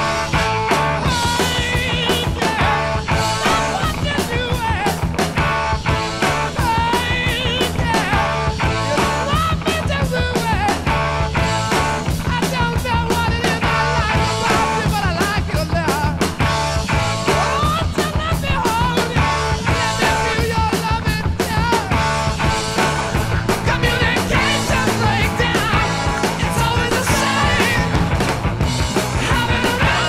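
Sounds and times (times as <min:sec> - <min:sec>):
rock music: 0:00.0 - 0:30.0.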